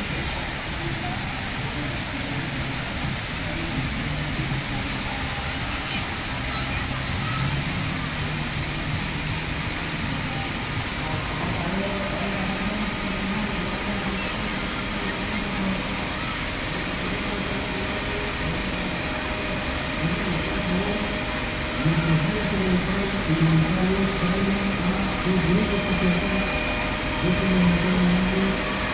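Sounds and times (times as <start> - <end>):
faint voices: 0.0 - 28.9
fountain water splashing: 0.0 - 28.9.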